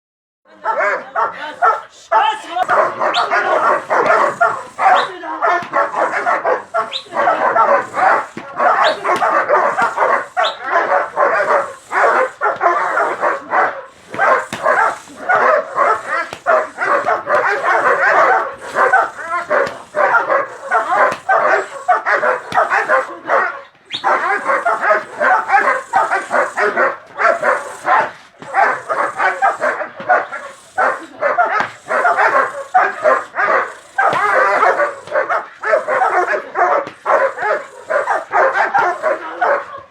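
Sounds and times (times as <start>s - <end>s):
dog barking: 0.5s - 39.9s.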